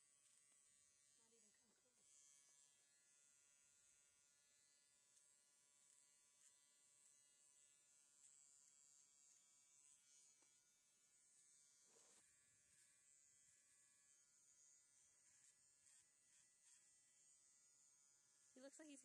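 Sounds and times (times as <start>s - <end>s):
electric clippers buzzing: 0.0s - 19.0s.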